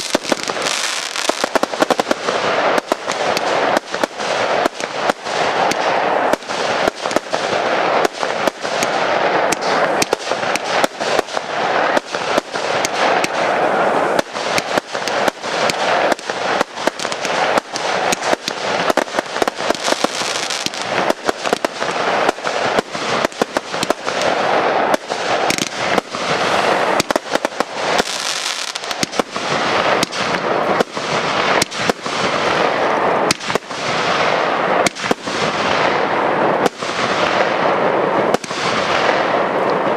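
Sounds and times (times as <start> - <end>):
firework shells bursting: 0.0 - 35.9
crackle and rumble of fireworks: 0.0 - 39.9.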